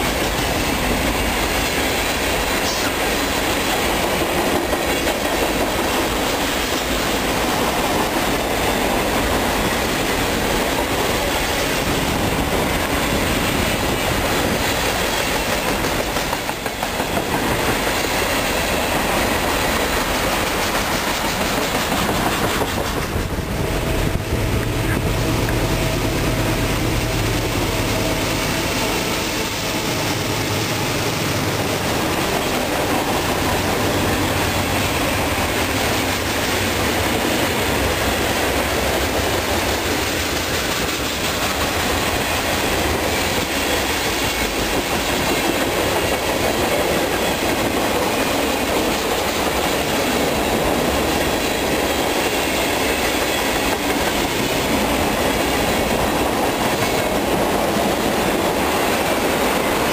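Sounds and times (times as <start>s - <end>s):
freight train wheels rumbling and clattering: 0.0s - 59.9s.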